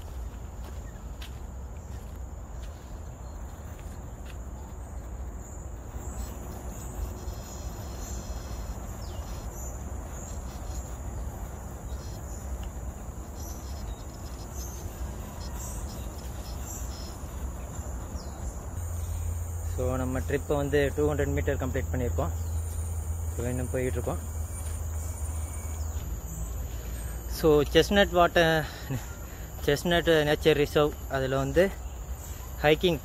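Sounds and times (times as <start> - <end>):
forest insects droning: 0.0 - 33.0.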